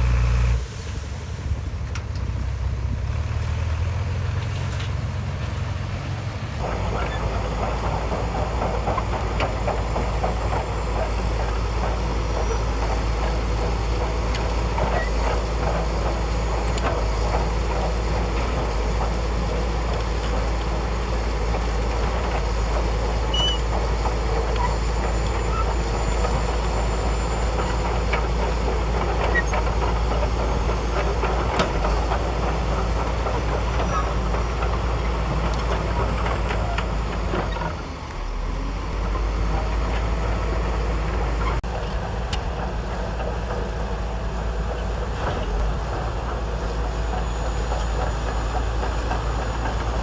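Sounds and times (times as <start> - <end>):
bulldozer diesel engine running: 0.0 - 50.0
steel tracks clanking: 0.0 - 50.0.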